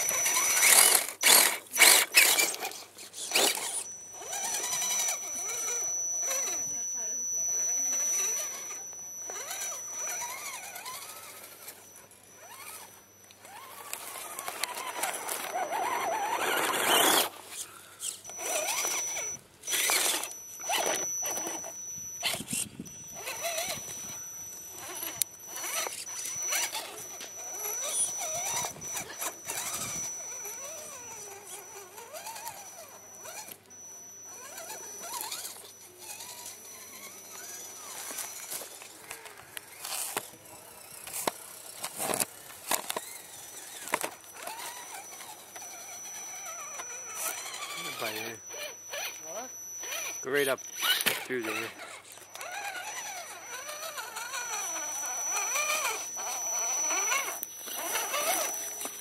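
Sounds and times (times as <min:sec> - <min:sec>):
toy truck motor whining: 0:00.0 - 0:59.0.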